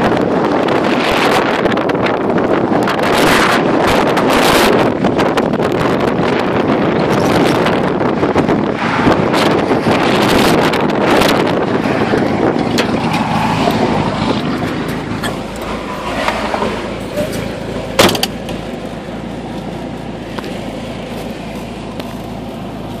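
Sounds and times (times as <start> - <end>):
low steady car hum: 0.0 - 23.0
wind buffeting microphone: 0.0 - 23.0.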